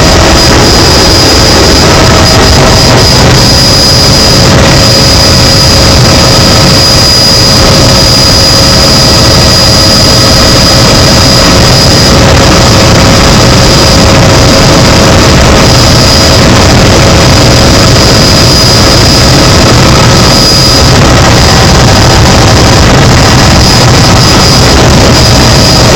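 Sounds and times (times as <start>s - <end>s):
helicopter engine and rotor noise: 0.0s - 25.9s.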